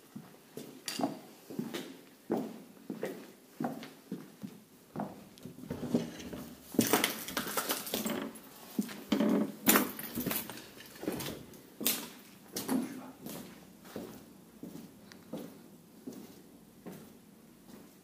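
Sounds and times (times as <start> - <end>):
footsteps on tiled floor: 0.0 - 18.0.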